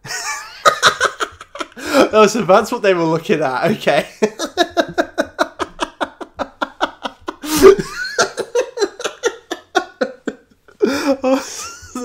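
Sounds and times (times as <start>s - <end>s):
man laughing hard: 0.0s - 2.2s, 4.0s - 12.0s.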